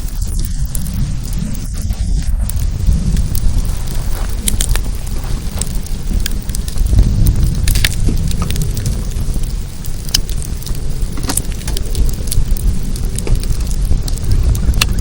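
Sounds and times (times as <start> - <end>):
steady low rumble: 0.0 - 15.0
wood fire crackling: 0.0 - 15.0.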